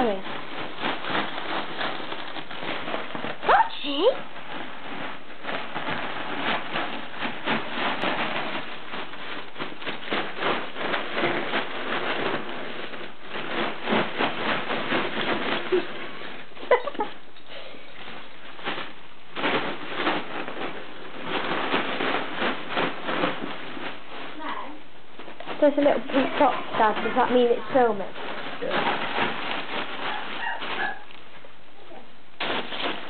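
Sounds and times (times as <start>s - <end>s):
foil balloon crinkling: 0.0s - 33.0s.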